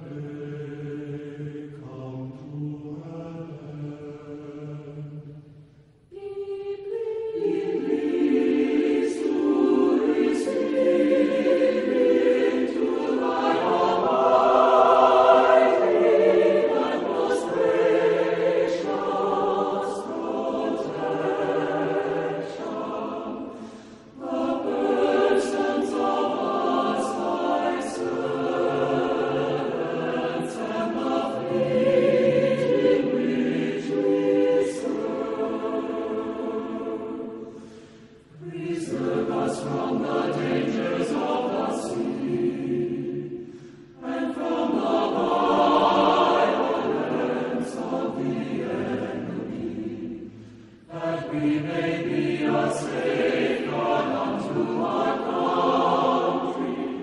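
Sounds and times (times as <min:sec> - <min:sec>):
choir singing held chords: 0:00.0 - 0:57.0.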